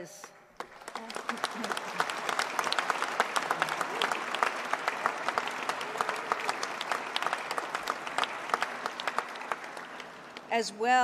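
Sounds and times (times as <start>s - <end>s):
audience applauding: 0.6s - 10.5s.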